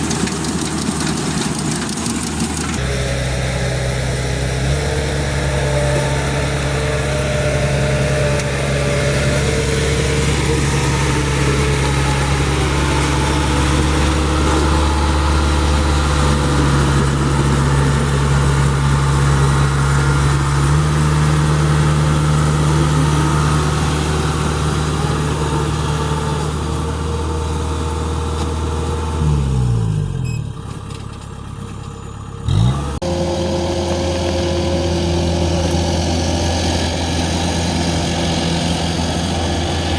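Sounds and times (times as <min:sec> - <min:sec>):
harvester diesel engine running: 0:00.0 - 0:39.9.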